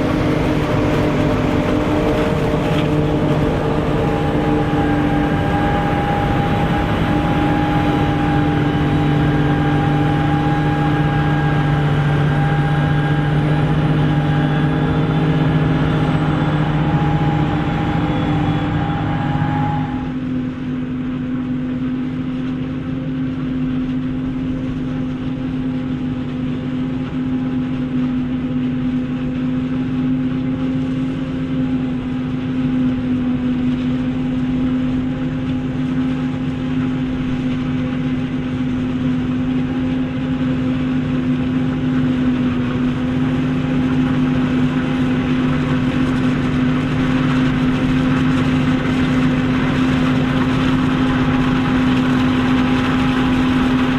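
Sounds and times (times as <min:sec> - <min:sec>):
heavy diesel machinery running: 0:00.0 - 0:53.9.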